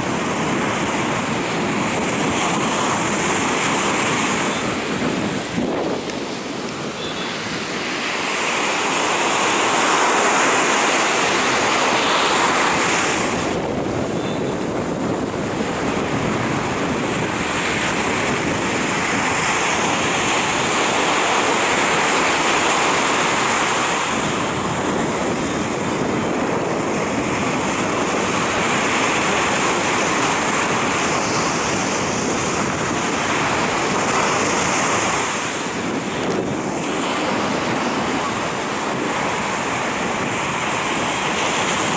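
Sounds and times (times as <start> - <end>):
waves breaking on a beach: 0.0 - 41.9.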